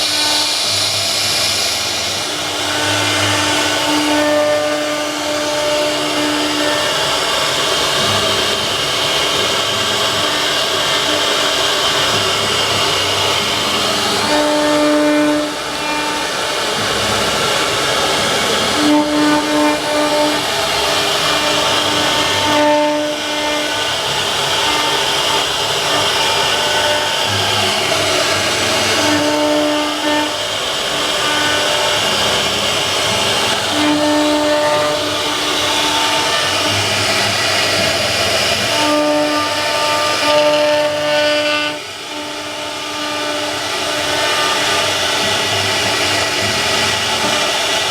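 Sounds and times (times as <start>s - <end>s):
router motor whine and cutting: 0.0s - 47.9s.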